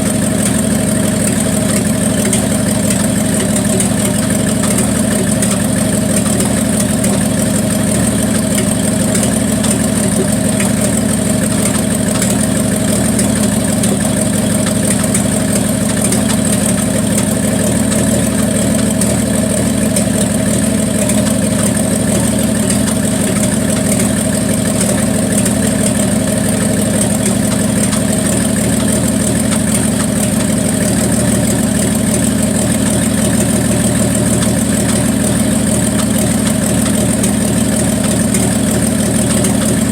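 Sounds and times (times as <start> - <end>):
car engine idling with a miss: 0.0 - 39.9.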